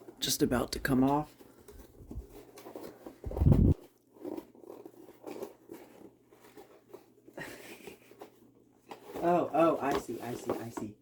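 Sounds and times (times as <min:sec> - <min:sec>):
cardboard crinkling and scraping: 0:00.0 - 0:11.0.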